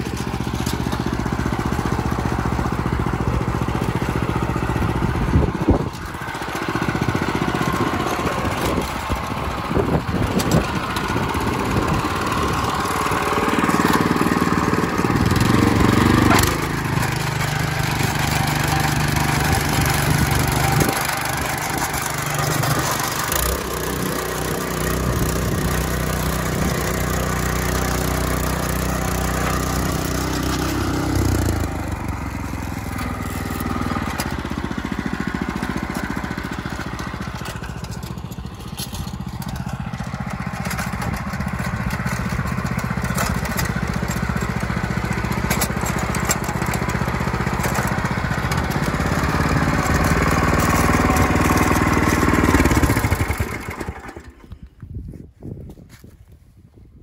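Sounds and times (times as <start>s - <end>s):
walk-behind tractor engine running: 0.0s - 56.4s.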